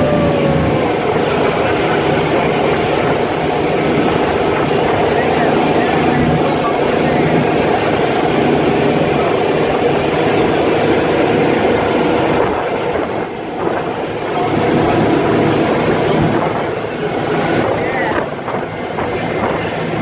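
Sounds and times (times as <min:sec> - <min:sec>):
ferry engines droning: 0:00.0 - 0:20.0
wind and water rushing: 0:00.0 - 0:20.0.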